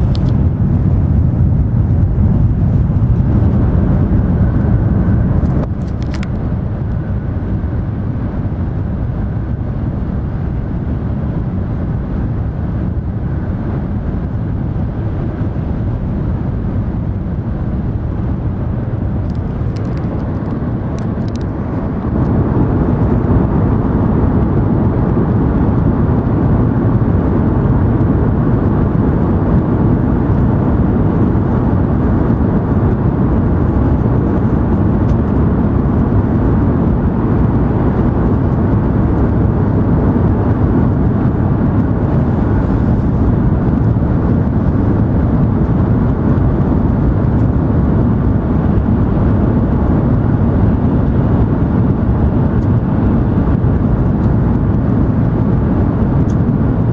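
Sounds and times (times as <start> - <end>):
train interior low rumble: 0.0 - 56.9.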